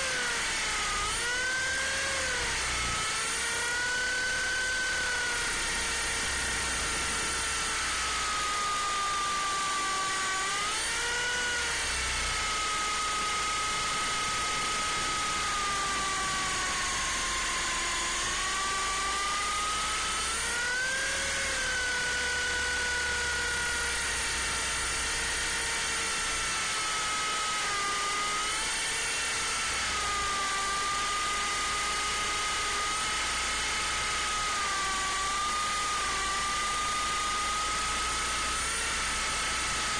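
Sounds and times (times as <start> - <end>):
rc helicopter motor whining: 0.0 - 39.9.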